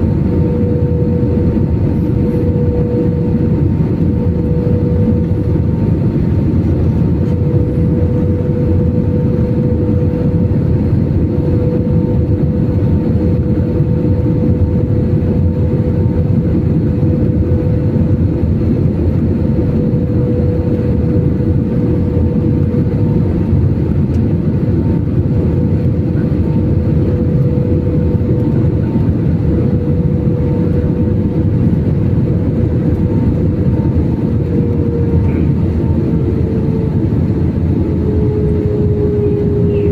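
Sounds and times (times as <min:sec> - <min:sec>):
airliner cabin engine noise: 0:00.0 - 0:39.9
mid-pitched whine: 0:00.0 - 0:39.9.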